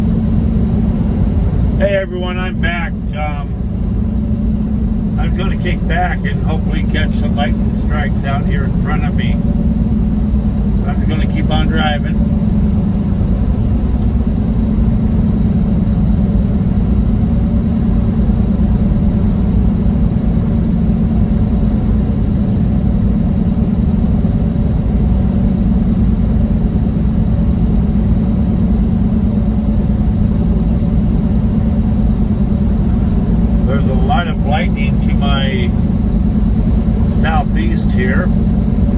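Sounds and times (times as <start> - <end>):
truck engine drone and road noise: 0.0 - 38.9.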